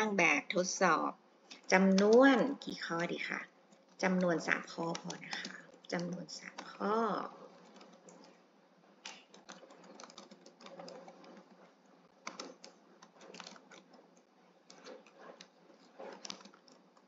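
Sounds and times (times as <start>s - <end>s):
faint keyboard typing: 1.5s - 17.0s.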